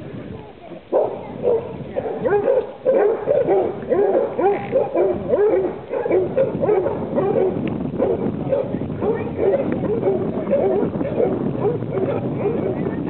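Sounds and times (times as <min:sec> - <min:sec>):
hounds baying: 0:00.9 - 0:13.0.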